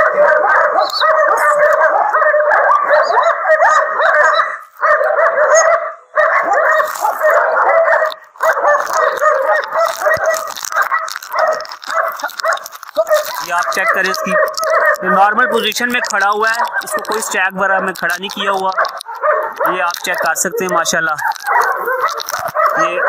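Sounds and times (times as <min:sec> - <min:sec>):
dog whining and yelping: 0:00.0 - 0:16.0, 0:18.8 - 0:19.8, 0:20.4 - 0:23.0.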